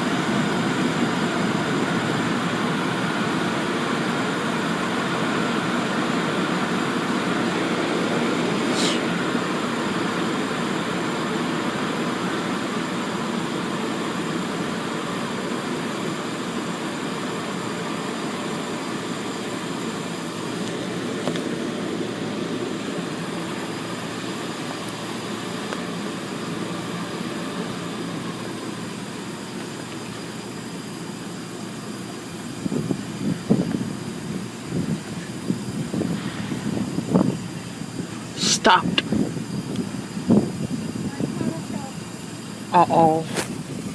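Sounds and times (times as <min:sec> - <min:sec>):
car wash equipment rushing: 0:00.0 - 0:42.7.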